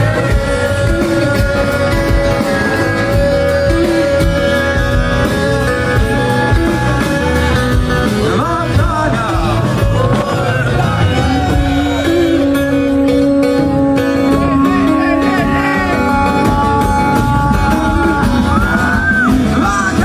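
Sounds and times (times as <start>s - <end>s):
guitars playing chords: 0.0s - 20.0s
man singing: 0.0s - 20.0s.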